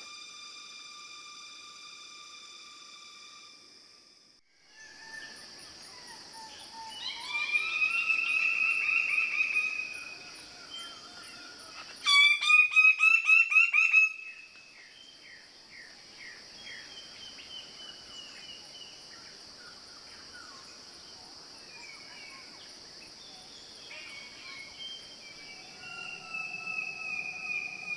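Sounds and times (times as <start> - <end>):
high insect drone: 0.0 - 27.9
forest birds calling: 4.7 - 27.9.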